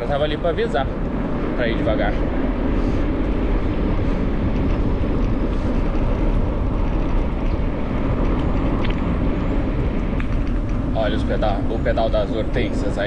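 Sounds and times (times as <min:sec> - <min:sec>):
bicycle tyres rolling on pavement: 0:00.0 - 0:13.0
wind rush on microphone: 0:00.0 - 0:13.0.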